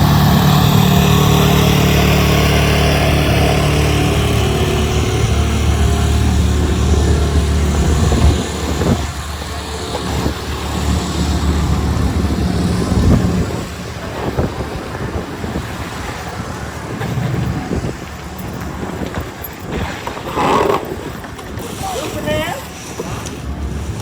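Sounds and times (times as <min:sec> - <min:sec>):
passing cars and trucks: 0:00.0 - 0:24.0.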